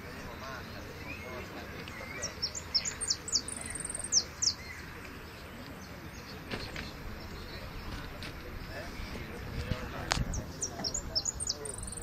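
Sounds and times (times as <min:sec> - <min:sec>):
finch singing: 0:00.0 - 0:08.0, 0:10.3 - 0:12.0.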